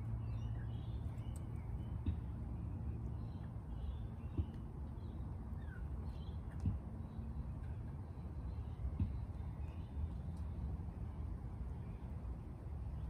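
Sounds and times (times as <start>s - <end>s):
birds chirping: 0.0s - 10.5s
low background rumble: 0.0s - 13.0s.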